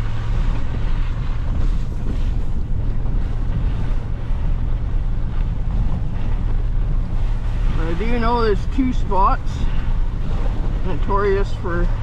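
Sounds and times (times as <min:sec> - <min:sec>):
road and wind noise: 0:00.0 - 0:12.0
truck engine rumbling under load: 0:00.0 - 0:12.0.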